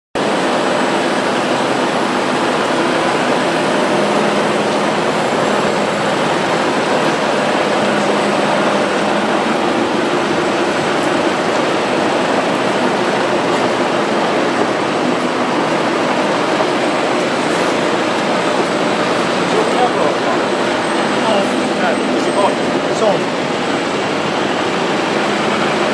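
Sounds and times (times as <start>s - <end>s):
bus engine running: 0.2s - 25.9s
city street traffic: 0.2s - 25.9s.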